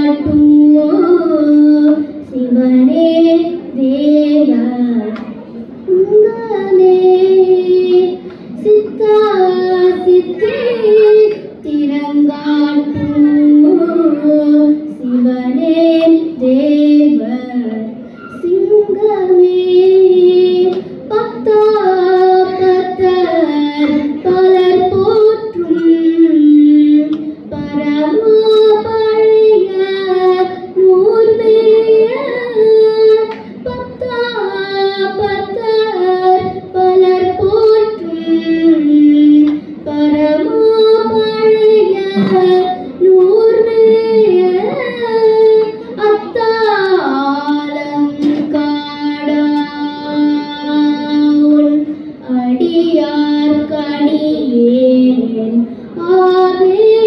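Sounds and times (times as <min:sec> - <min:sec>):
girl singing into a microphone: 0:00.0 - 0:57.0.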